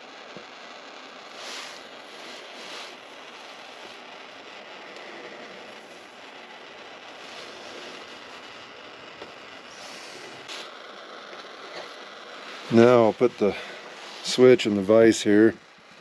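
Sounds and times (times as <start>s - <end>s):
gas torch flame hissing: 0.0s - 16.0s.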